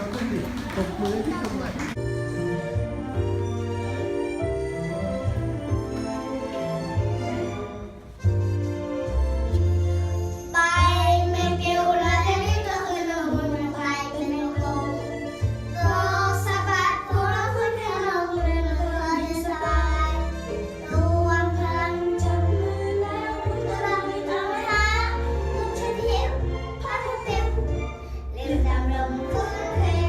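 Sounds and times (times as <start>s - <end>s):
musical accompaniment with bass line: 1.9s - 30.0s.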